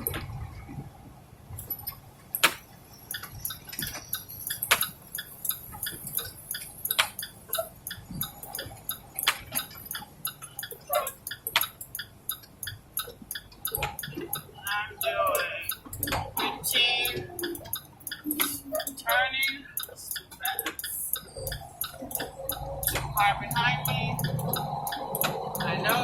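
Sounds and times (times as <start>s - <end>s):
low steady rumble: 0.0s - 26.0s
rapid regular ticking: 1.6s - 26.0s.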